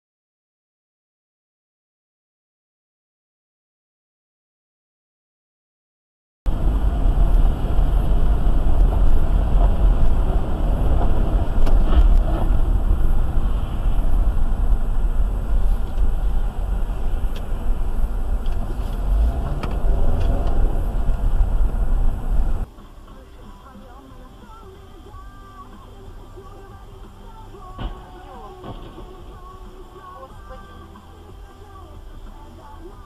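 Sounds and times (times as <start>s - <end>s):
car engine and tyres rumbling: 6.5s - 33.0s.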